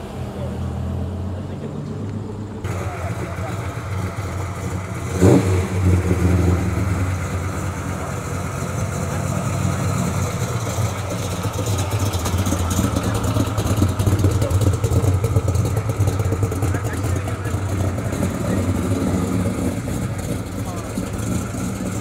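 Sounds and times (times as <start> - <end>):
car engine idling and driving off: 0.0 - 22.0.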